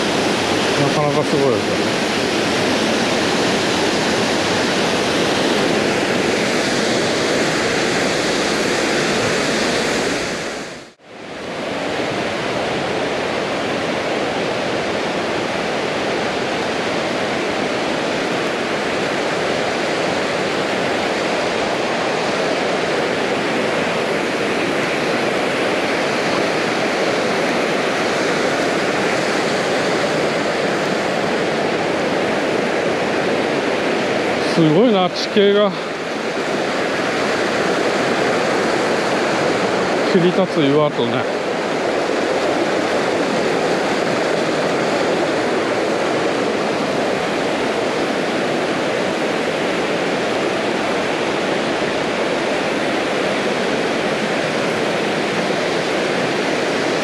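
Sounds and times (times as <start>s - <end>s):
fast river rushing: 0.0s - 57.0s
waterfall rushing: 0.0s - 57.0s.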